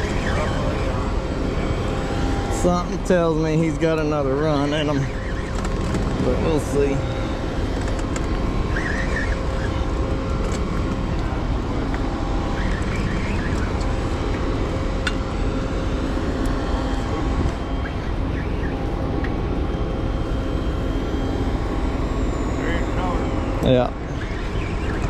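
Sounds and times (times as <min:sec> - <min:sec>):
steady machinery drone: 0:00.0 - 0:25.0.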